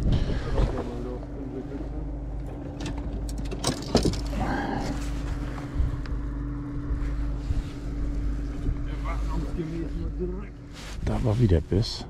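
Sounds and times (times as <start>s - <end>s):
boat motor humming: 0.0s - 12.0s
low rumble: 0.0s - 12.0s.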